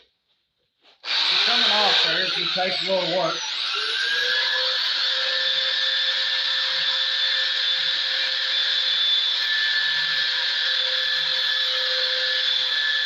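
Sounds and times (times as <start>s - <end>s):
belt sander grinding metal: 1.0s - 13.0s.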